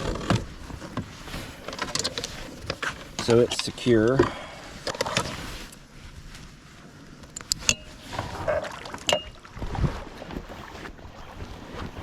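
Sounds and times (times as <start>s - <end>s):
water noise: 0.0s - 12.0s
wind noise: 0.0s - 12.0s.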